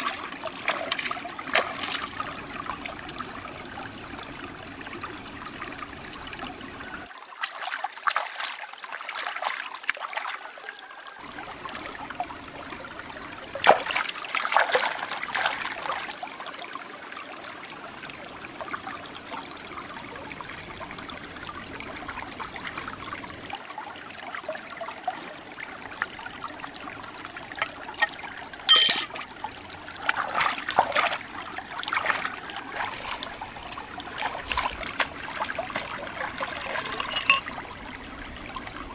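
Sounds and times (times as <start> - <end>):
stream trickling over rocks: 0.0 - 38.9.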